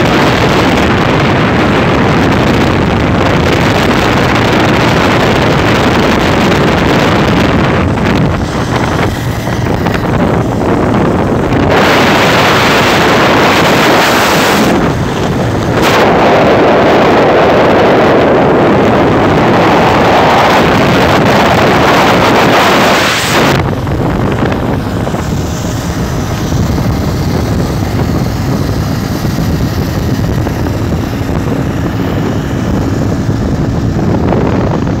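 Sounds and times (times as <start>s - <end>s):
vehicle running noise: 0.0s - 35.0s
wind rushing over microphone: 0.0s - 35.0s.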